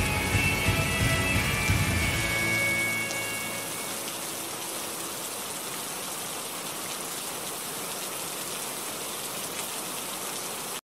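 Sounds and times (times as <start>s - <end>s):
steady rain falling: 0.0s - 10.8s.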